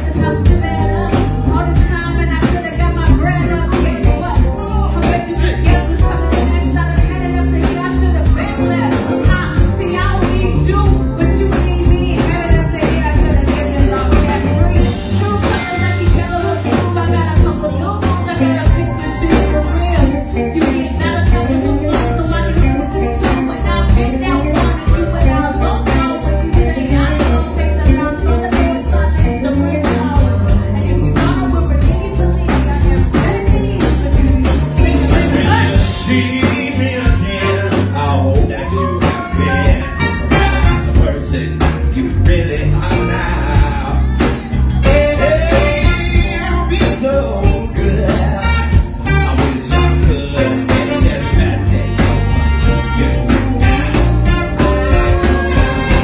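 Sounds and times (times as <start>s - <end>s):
drums: 0.0s - 56.0s
electric guitars: 0.0s - 56.0s
person singing: 0.0s - 56.0s.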